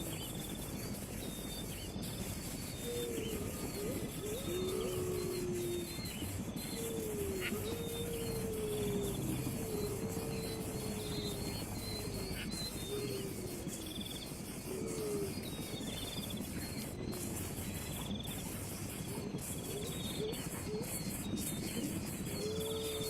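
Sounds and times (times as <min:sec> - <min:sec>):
low gliding calls: 0:00.0 - 0:23.0
steady background hiss: 0:00.0 - 0:23.0.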